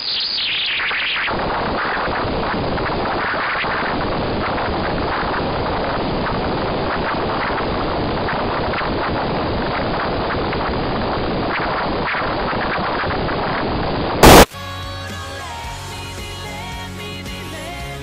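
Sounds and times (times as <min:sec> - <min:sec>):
faint crackles: 0:00.0 - 0:14.5
radio static hiss: 0:00.0 - 0:14.5.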